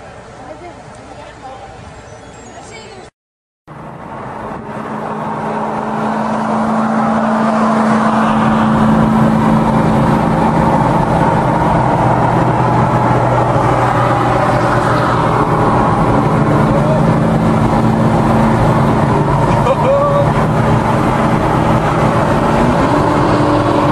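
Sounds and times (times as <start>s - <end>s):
road and wind noise: 0.0s - 3.1s, 3.7s - 23.9s
car engine drone: 3.7s - 23.9s.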